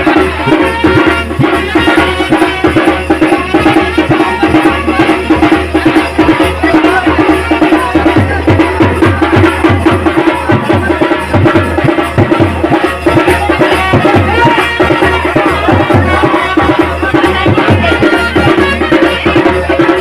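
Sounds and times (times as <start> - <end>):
fast steady drumming: 0.0 - 20.0
folk band music: 0.0 - 20.0.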